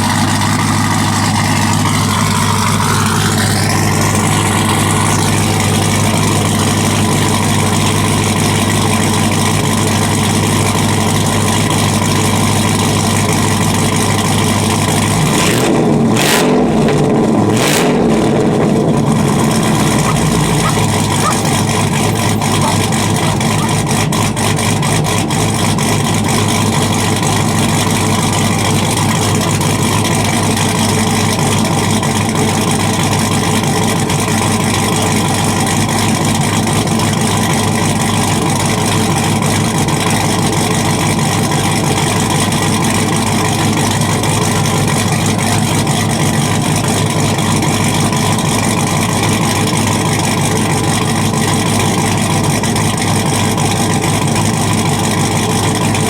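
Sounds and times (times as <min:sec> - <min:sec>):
loud engine idling: 0:00.0 - 0:56.0.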